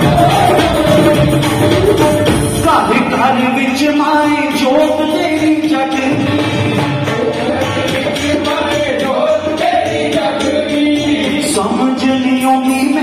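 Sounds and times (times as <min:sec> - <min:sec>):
hand drums: 0:00.0 - 0:12.1
man singing through speakers: 0:00.0 - 0:13.0.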